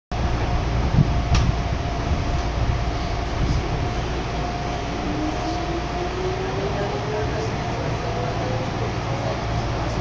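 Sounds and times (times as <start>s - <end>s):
rising train motor whine: 0.2s - 10.0s
train running rumble: 0.2s - 10.0s.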